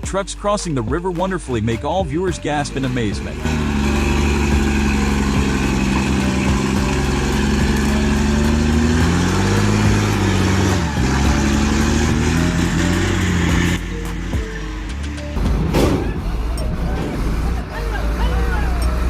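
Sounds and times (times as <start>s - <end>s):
truck engine labouring and revving: 1.5s - 19.0s.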